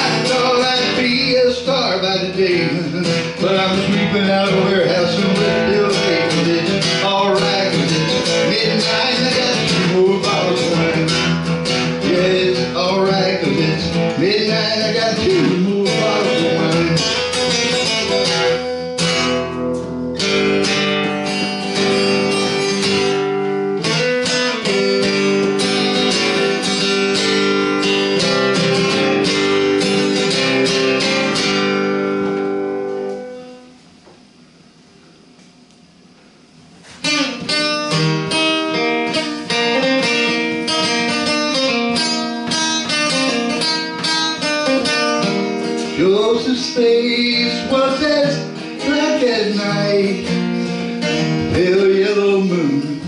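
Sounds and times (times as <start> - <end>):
acoustic guitar chords: 0.0 - 53.0.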